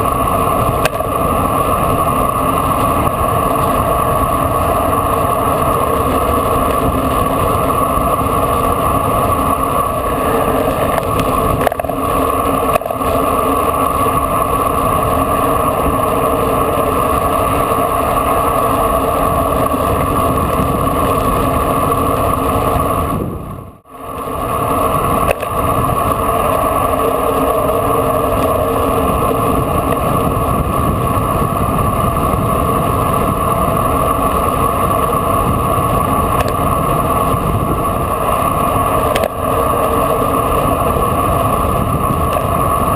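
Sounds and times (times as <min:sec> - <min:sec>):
wind rushing on microphone: 0:00.0 - 0:42.9.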